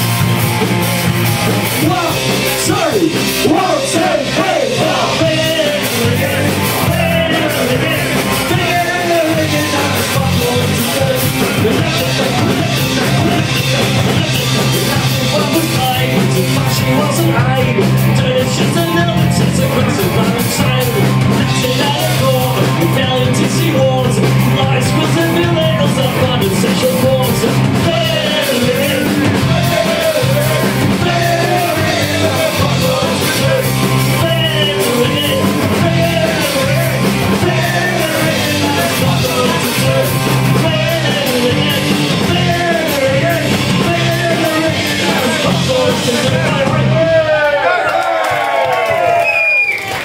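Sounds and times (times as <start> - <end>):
punk rock band playing: 0.0 - 50.0
man singing: 1.5 - 47.6.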